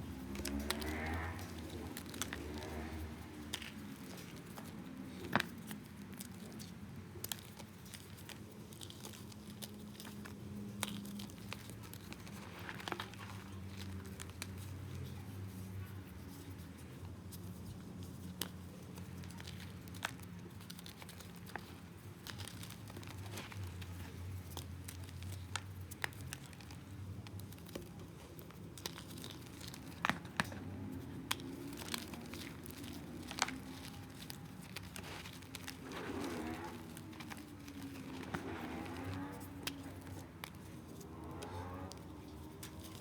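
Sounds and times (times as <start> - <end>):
chalk cracking and crumbling by hand: 0.0 - 43.0.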